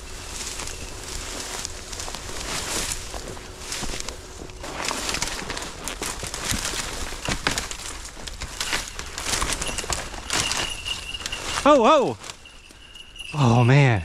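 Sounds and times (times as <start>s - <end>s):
crunching through dry brush: 0.0s - 13.3s.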